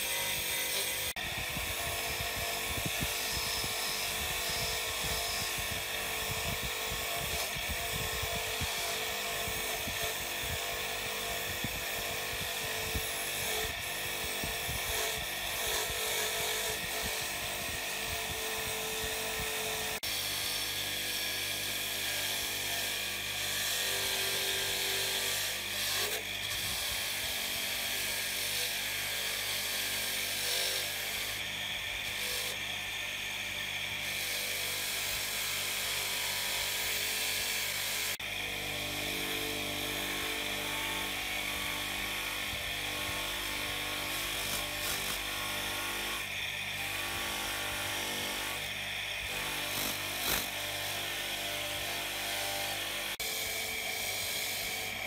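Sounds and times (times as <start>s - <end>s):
wire brush grinder scrubbing metal: 0.0s - 55.0s.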